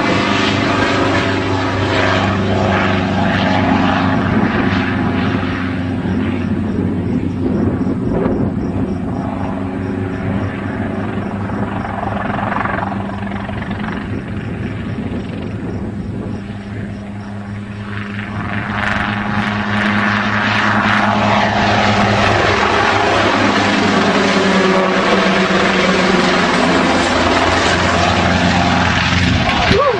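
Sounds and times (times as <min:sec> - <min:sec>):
helicopter engine and rotor drone: 0:00.0 - 0:29.9.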